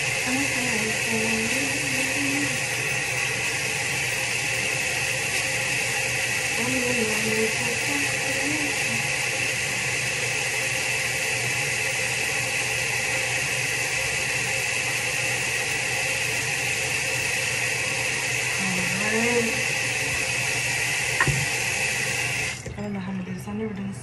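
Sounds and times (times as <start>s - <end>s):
water running from sink tap: 0.0s - 22.8s.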